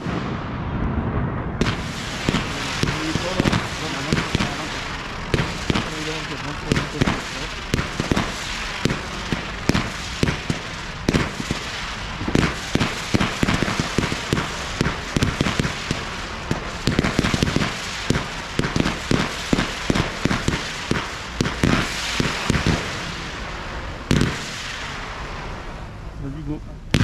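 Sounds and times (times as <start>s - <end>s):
fireworks bursting and banging: 0.0s - 27.0s
fireworks crackling: 0.0s - 27.0s.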